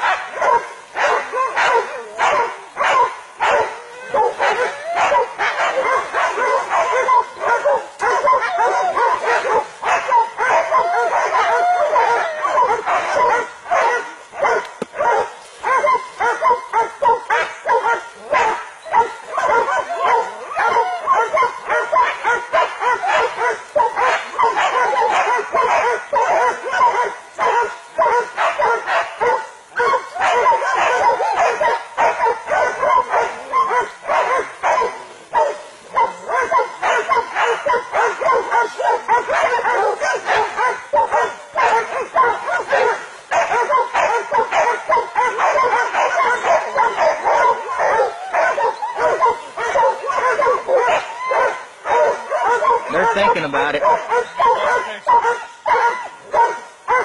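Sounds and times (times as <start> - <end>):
dogs barking and yelping: 0.0 - 57.0.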